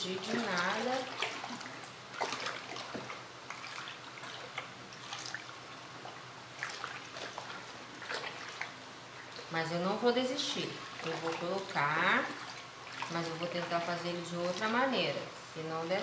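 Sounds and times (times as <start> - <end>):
liquid sloshing and splashing: 0.0 - 16.0.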